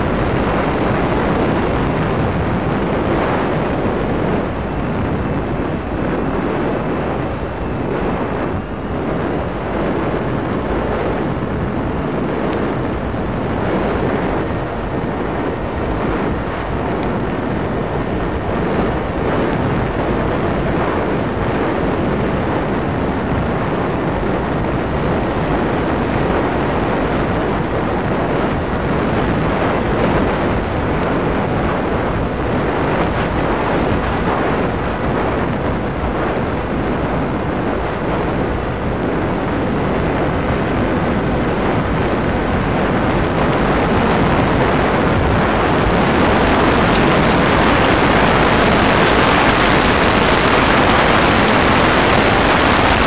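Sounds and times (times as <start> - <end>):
electric propeller whine: 0.0 - 53.0
wind rushing: 0.0 - 53.0.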